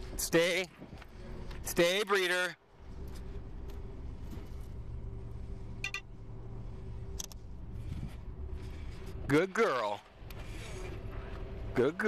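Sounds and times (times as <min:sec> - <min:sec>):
vehicle engine idling: 0:00.0 - 0:02.0, 0:02.6 - 0:12.0.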